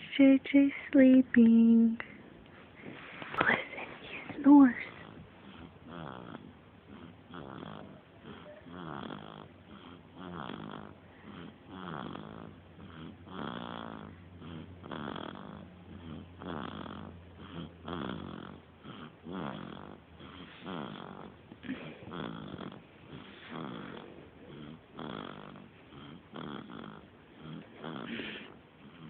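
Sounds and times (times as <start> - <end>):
baby snoring: 3.4 - 29.0.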